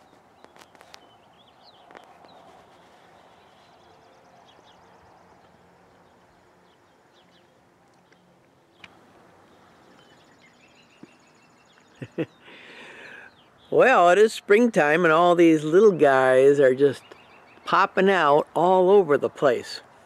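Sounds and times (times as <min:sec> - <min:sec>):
distant birds chirping: 0:00.0 - 0:20.0.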